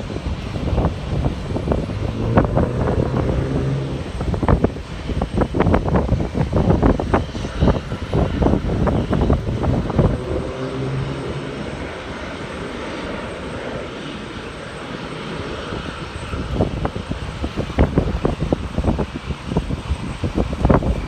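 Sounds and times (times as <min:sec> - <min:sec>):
jet engines running: 0:00.0 - 0:21.0
wind buffeting microphone: 0:00.0 - 0:21.0.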